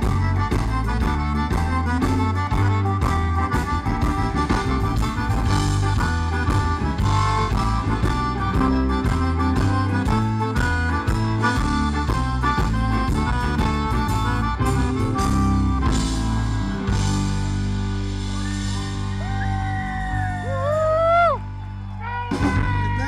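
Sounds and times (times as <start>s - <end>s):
steady drum beat: 0.0s - 19.5s
live band music: 0.0s - 23.0s.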